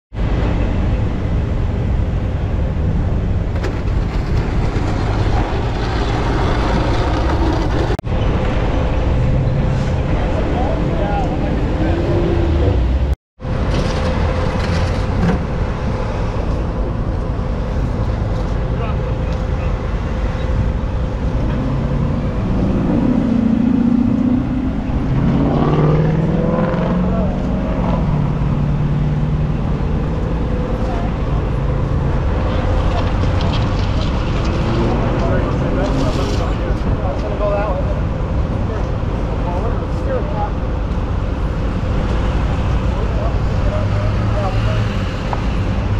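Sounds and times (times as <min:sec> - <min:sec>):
highway traffic rumble: 0:00.1 - 0:45.9
vehicle engine: 0:00.2 - 0:45.9.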